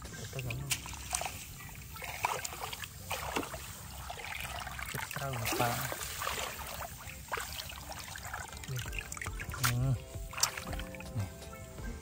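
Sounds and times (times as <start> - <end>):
water sloshing and splashing: 0.0 - 11.7.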